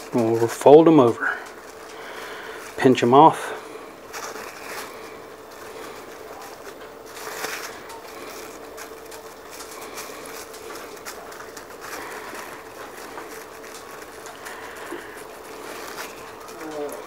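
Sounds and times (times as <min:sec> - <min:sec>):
background hum: 0:00.0 - 0:17.0
plastic wrap crinkling: 0:00.0 - 0:17.0.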